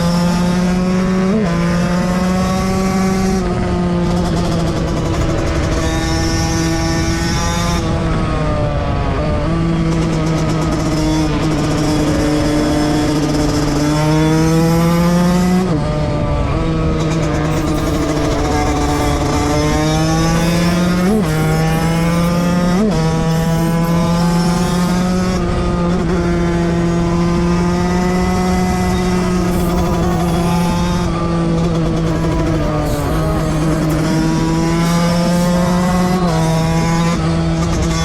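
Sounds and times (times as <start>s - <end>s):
engine blips: 0.0s - 38.0s
two-stroke motorcycle engine revving: 0.0s - 38.0s.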